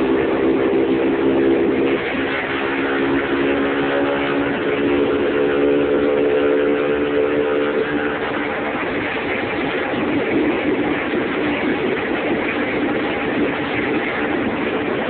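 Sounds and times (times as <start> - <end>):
moped engine running: 0.0 - 15.0
wind on microphone: 0.0 - 15.0.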